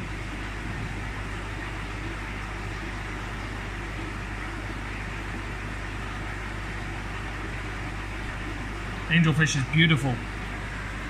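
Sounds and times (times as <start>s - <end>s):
aquarium pumps humming: 0.0s - 11.0s
circulating water hiss: 0.0s - 11.0s.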